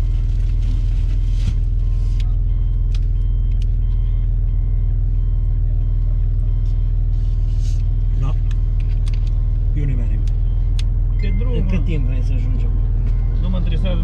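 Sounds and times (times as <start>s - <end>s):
engine idling inside cab: 0.0s - 14.0s
faint electronic beeps: 1.8s - 14.0s.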